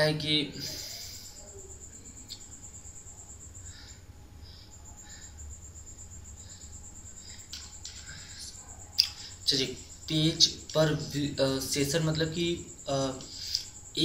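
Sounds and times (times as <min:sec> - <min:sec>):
cricket trilling: 0:00.0 - 0:14.0
low steady hum: 0:00.0 - 0:14.0.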